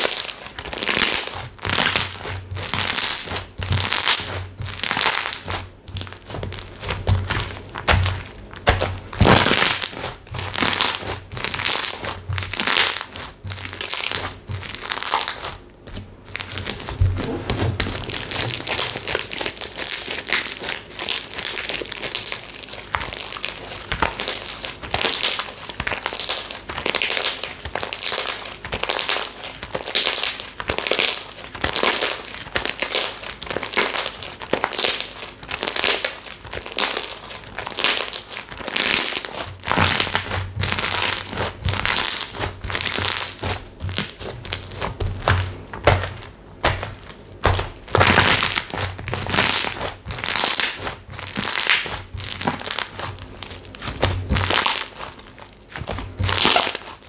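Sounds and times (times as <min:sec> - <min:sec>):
slime squeezed crackling: 0:00.0 - 0:57.0.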